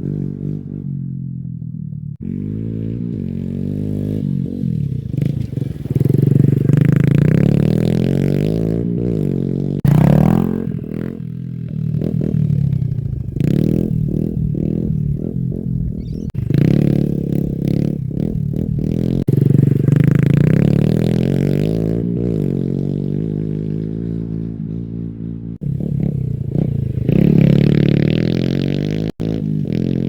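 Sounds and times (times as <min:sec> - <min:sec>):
pit bike engine revving: 0:00.0 - 0:30.0.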